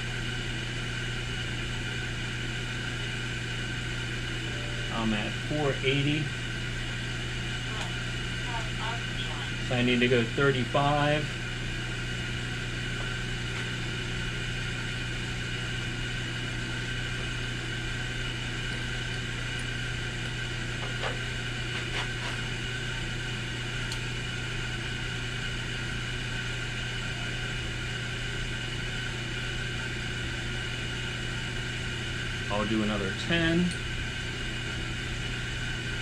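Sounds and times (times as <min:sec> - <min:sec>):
high cutting whine: 0:01.0 - 0:36.0.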